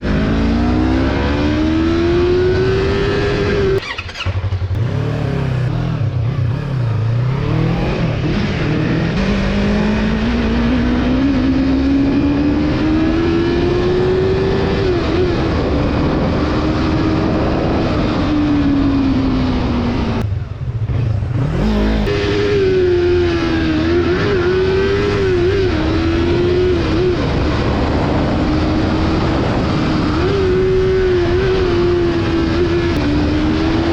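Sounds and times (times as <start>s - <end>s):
motorcycle engine revving: 0.0s - 33.9s
wind and road noise: 0.0s - 33.9s.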